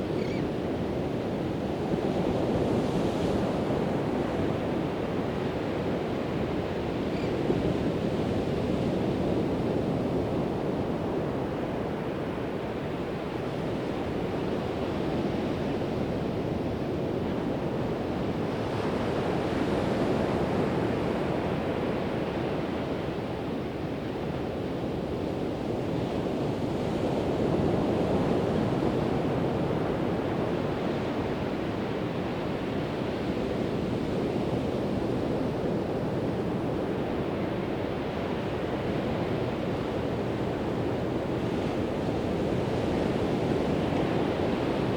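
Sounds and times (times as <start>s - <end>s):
wind rumble on microphone: 0.0s - 44.9s.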